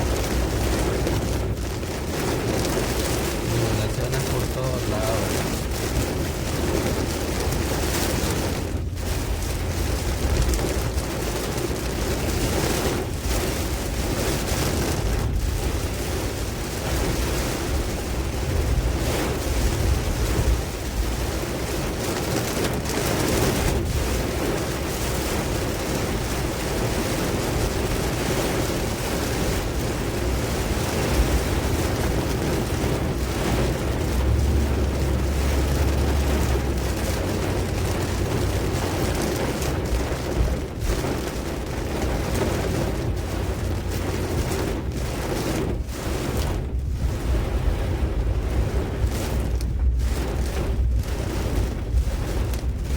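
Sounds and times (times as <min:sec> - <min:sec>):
rain: 0:00.0 - 0:52.9
strong wind gusts: 0:00.0 - 0:52.9
wind buffeting microphone: 0:00.0 - 0:52.9.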